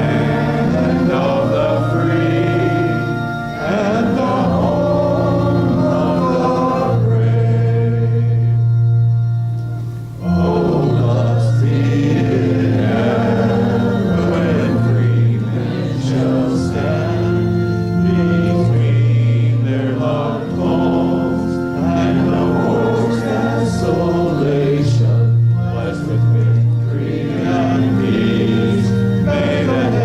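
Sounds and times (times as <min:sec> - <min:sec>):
congregation singing a hymn: 0:00.0 - 0:30.0
organ: 0:00.0 - 0:30.0.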